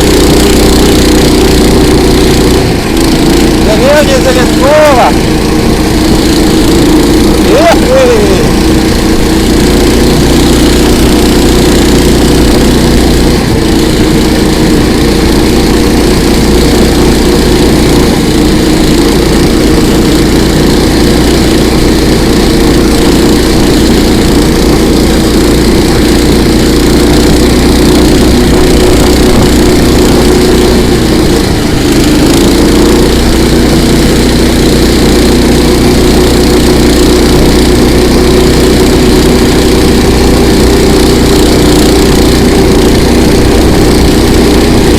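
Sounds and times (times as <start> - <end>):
motorized tow engine running: 0.0 - 44.9.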